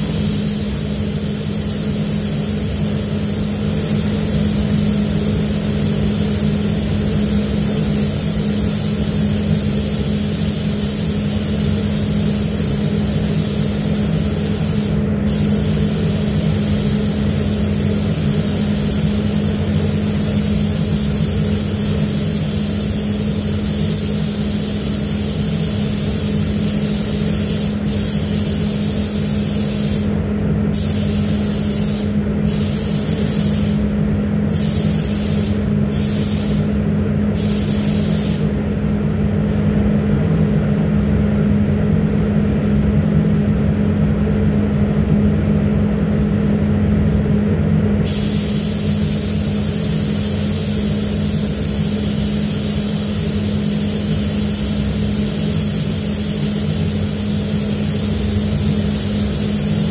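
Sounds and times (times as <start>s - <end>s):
air spray gun hissing: 0.0s - 33.9s, 34.5s - 38.6s, 48.0s - 59.9s
ventilation fans humming: 0.0s - 59.9s.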